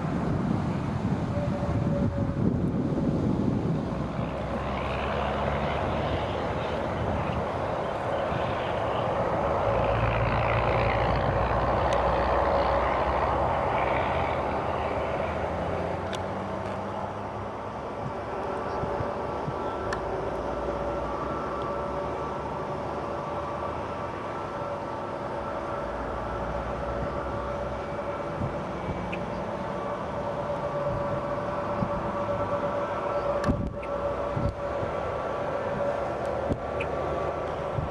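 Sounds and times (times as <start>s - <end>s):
jet engines rushing: 0.0s - 37.9s
wind buffeting microphone: 0.0s - 37.9s.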